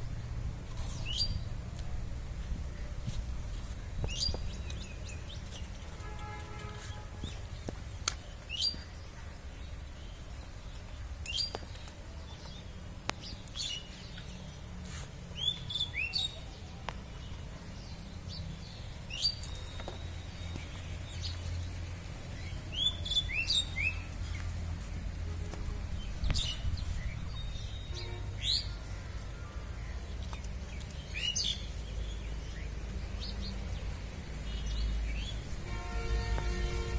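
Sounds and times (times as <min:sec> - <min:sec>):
small birds chirping: 0:00.6 - 0:36.9.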